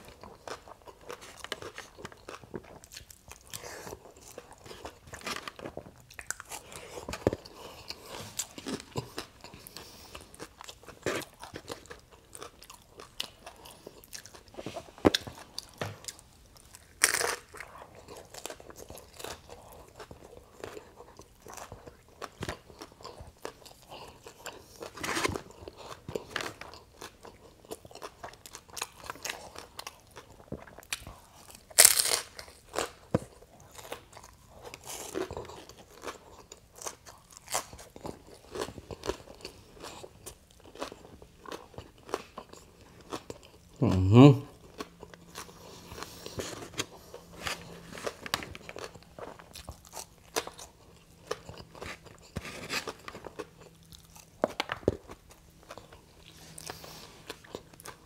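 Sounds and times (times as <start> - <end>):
crunchy chewing: 0.0 - 43.8, 44.5 - 58.0.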